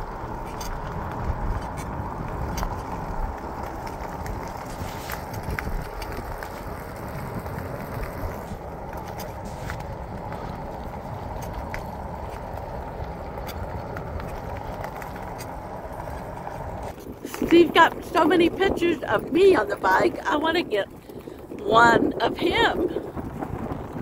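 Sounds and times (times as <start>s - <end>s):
bicycle clicks and rattles: 0.0s - 21.7s, 22.8s - 24.0s
tyres on pavement: 0.0s - 24.0s
wind buffeting microphone: 0.0s - 24.0s.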